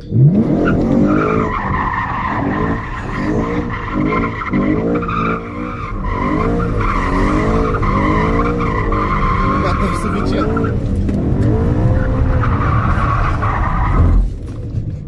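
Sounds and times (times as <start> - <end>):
car engine revving hard: 0.0 - 14.2.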